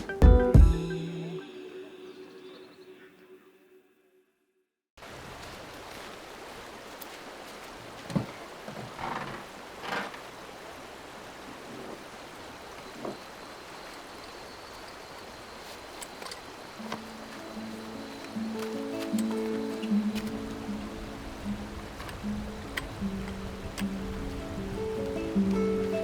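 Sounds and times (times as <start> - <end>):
steady rushing outdoor noise: 5.0 - 26.0.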